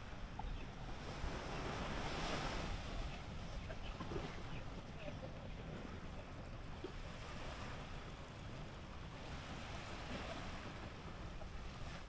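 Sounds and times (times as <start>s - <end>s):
surf washing on beach: 0.0s - 12.0s.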